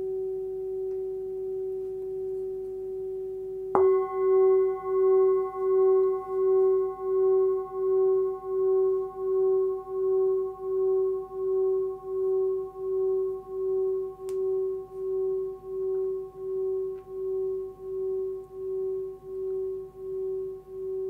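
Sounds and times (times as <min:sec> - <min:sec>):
singing bowl ringing: 0:00.0 - 0:21.0.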